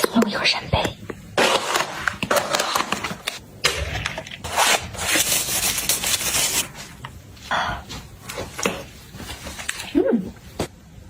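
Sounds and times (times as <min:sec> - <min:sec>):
objects rustling and scraping: 0:01.0 - 0:10.8.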